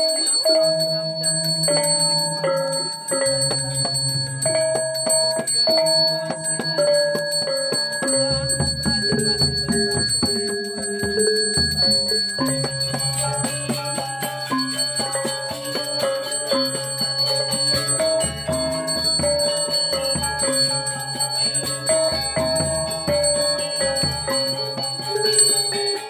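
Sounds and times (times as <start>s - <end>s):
gamelan metallophone notes: 0.0s - 26.0s
high bell ringing: 0.0s - 26.0s.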